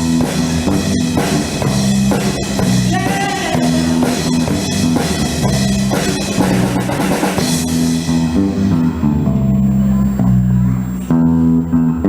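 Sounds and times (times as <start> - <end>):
drum kit: 0.0 - 11.9
bass guitar: 0.0 - 12.0
electric guitar: 0.0 - 12.0.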